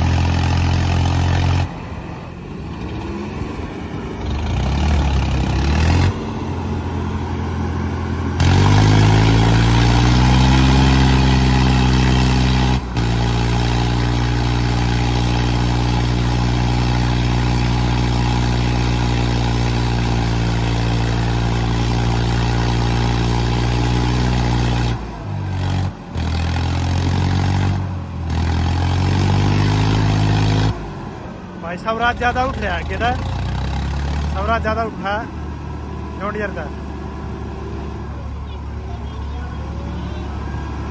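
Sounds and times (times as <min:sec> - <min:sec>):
tractor diesel engines working hard: 0:00.0 - 0:40.9.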